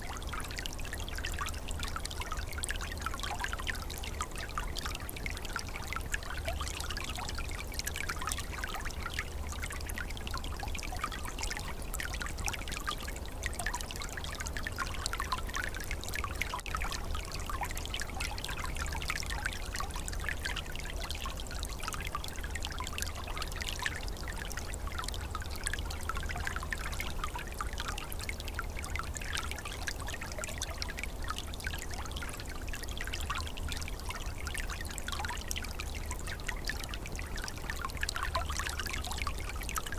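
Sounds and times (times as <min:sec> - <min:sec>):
stream trickling and bubbling: 0:00.0 - 0:39.9.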